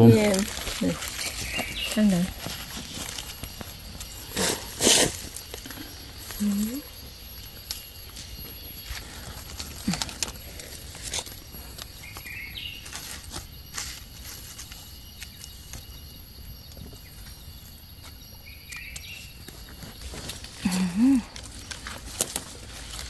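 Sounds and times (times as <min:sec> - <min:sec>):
dry leaves crackling and rustling: 0:00.0 - 0:15.9, 0:18.7 - 0:23.0
bird chirps: 0:00.8 - 0:10.0, 0:11.2 - 0:21.3.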